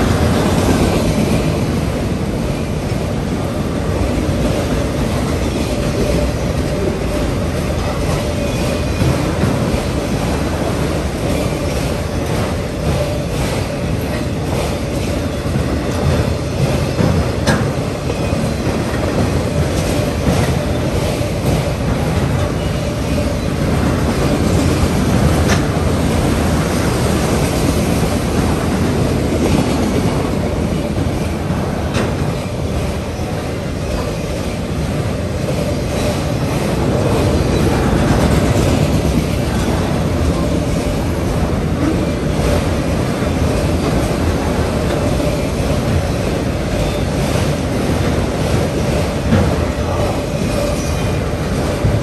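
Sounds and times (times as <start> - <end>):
freight train rumbling and rattling: 0.0 - 52.0.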